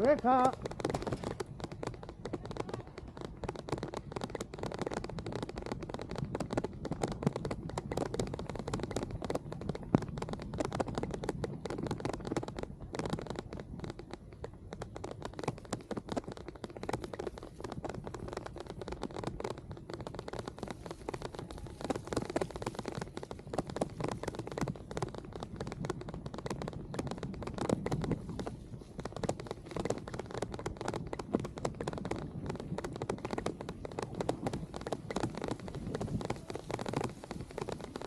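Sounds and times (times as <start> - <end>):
bicycle rolling on wet path: 0.0 - 38.0
raindrops hitting camera: 0.0 - 38.0.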